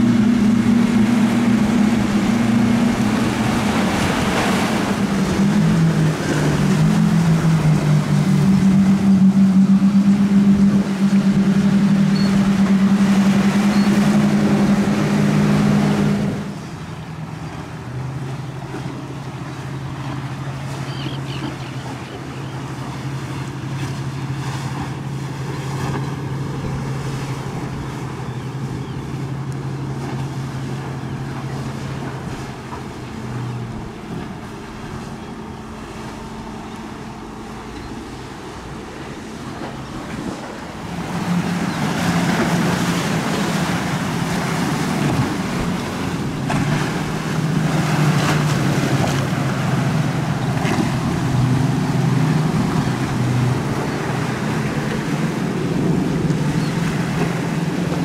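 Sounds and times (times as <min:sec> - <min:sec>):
boat engine drone: 0:00.0 - 0:58.0
louder boat passing: 0:00.0 - 0:58.0
rushing water: 0:00.0 - 0:58.0.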